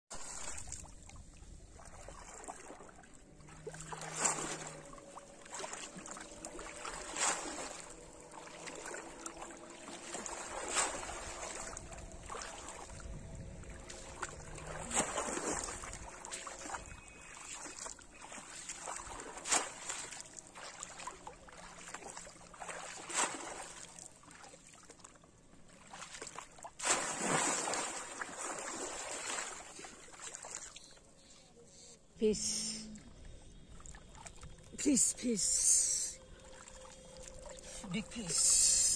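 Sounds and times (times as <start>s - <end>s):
person wading through water: 0.1s - 31.5s, 32.4s - 38.9s.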